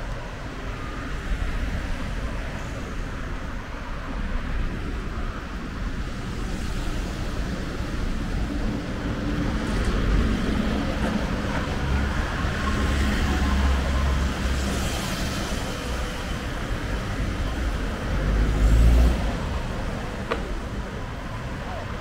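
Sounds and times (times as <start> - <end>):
road traffic engines: 0.0 - 22.0.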